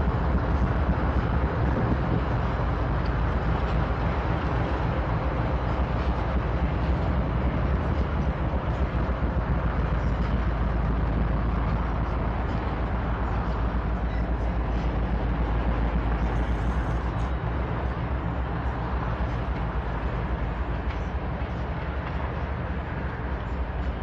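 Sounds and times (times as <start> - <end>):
steel wheels rumbling on rails: 0.0 - 24.0.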